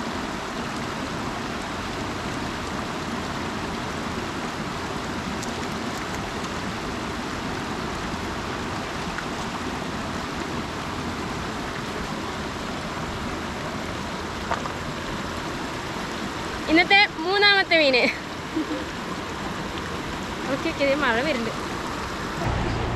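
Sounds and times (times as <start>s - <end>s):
river water over rocks: 0.0s - 22.9s.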